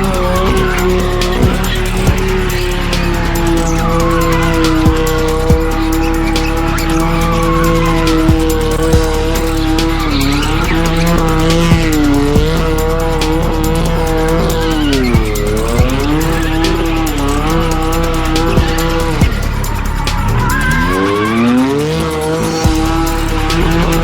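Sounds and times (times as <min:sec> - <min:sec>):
car engine revving high: 0:00.0 - 0:24.0
music with a beat: 0:00.0 - 0:24.0
tyres squealing: 0:00.0 - 0:24.0.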